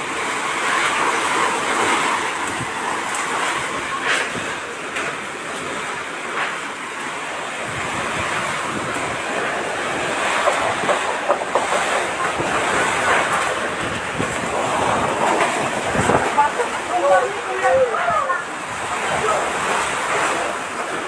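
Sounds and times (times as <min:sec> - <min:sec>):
strong wind gusting: 0:00.2 - 0:06.1, 0:06.8 - 0:21.0.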